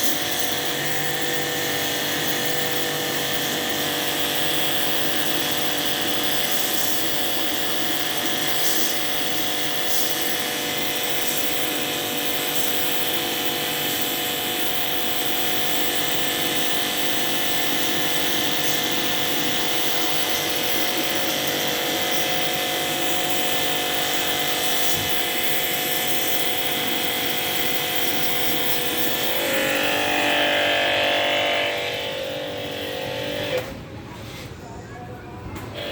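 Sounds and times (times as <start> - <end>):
small motor whining: 0.0 - 33.8.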